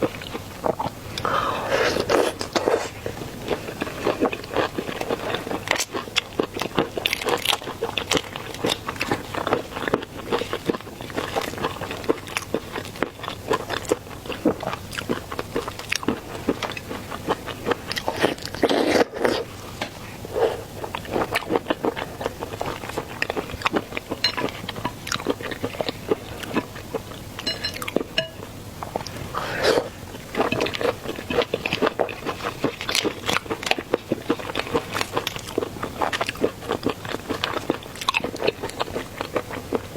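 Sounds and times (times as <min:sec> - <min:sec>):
wet chewing and biting: 0:00.0 - 0:19.5, 0:20.5 - 0:39.9.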